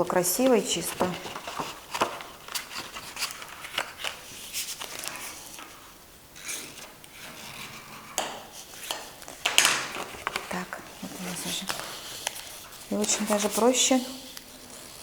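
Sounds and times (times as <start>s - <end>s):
cardboard rustling and scraping: 0.3s - 15.0s.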